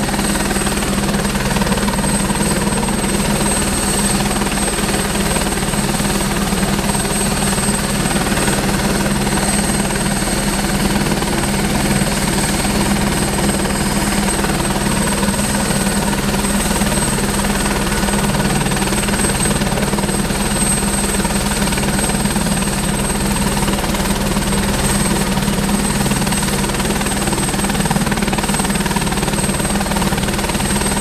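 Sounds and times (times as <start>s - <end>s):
helicopter turbine whine and rumble: 0.0s - 31.0s.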